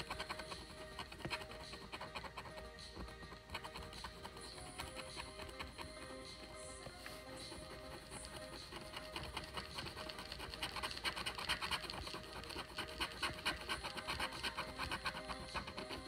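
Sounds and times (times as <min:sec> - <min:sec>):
stylus scratching a board: 0:00.0 - 0:16.0.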